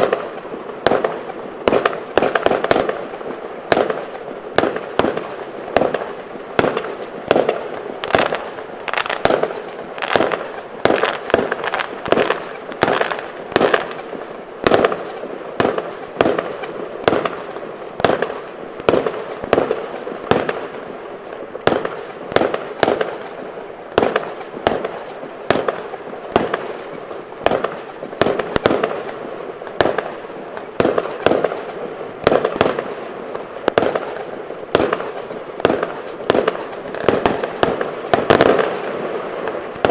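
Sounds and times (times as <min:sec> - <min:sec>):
fireworks banging: 0:00.0 - 0:39.9
fireworks hissing and crackling: 0:00.0 - 0:39.9.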